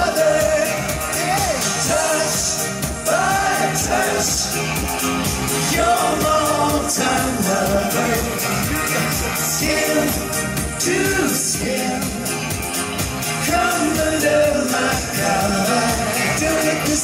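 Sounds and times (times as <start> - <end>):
man singing: 0.0 - 4.6, 5.7 - 12.6, 13.3 - 17.0
live synth-pop dance music: 0.0 - 17.0.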